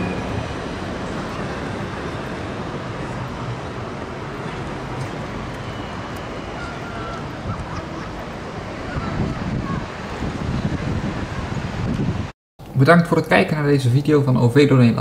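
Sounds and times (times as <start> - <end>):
street traffic noise: 0.0 - 12.9
tram running on tracks: 0.0 - 13.2.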